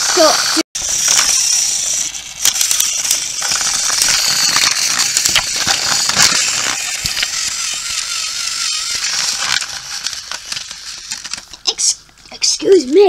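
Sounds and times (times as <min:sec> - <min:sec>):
plastic toy pieces clicking and rattling: 0:00.8 - 0:13.0.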